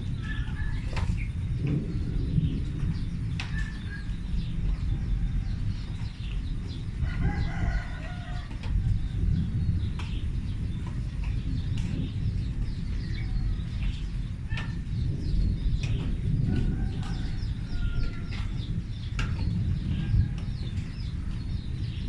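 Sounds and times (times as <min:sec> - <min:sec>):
birds chirping: 0:00.0 - 0:22.0
continuous low rumble: 0:00.0 - 0:22.0.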